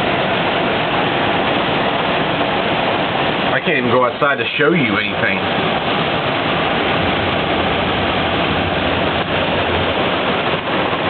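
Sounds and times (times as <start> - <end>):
torrential rain pouring: 0.0 - 11.0.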